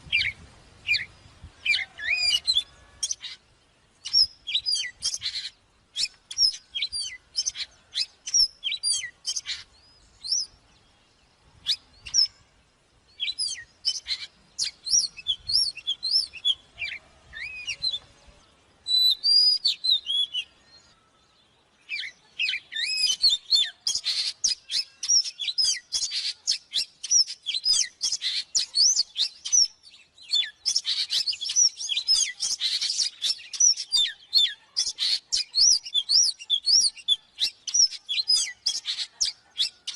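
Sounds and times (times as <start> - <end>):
bird singing whistled phrases: 4.0 - 10.6, 11.6 - 12.4, 13.1 - 18.0, 18.8 - 21.1, 21.9 - 39.9.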